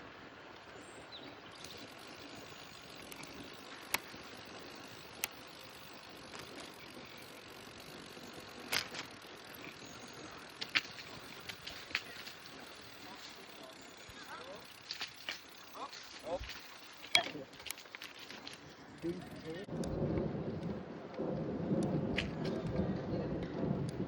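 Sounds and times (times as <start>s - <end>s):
wind and tyre noise: 0.0s - 24.0s
bicycle clicks and knocks: 1.5s - 20.0s, 21.8s - 22.8s.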